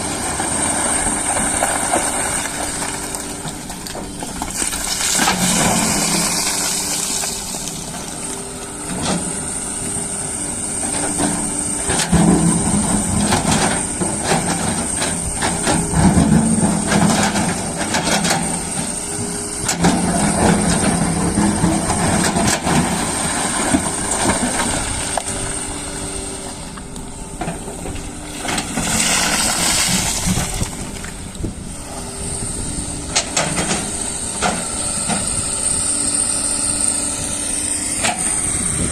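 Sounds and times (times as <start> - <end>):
excavator diesel engine working: 0.0 - 38.9.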